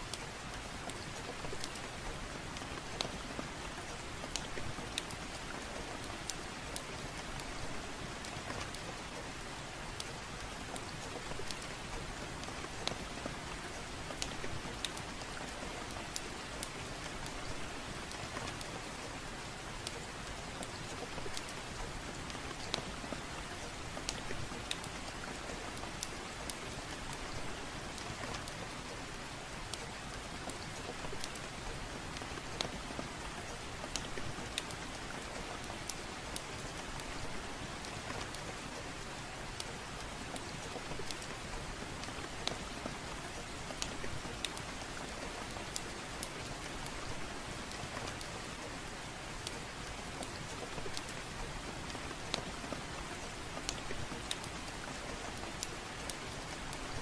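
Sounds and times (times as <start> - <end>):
soft rain: 0.0 - 57.0
wood fire crackling: 0.0 - 57.0.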